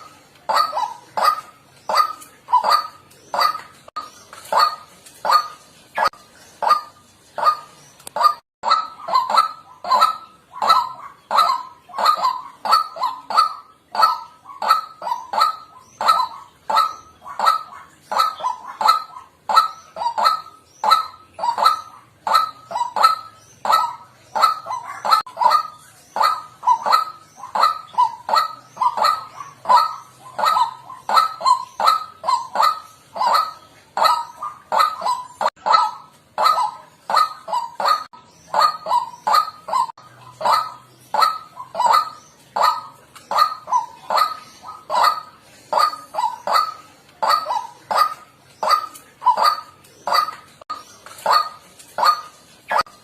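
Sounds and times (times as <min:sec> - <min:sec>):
waterhen croaking call: 0:00.0 - 0:53.0.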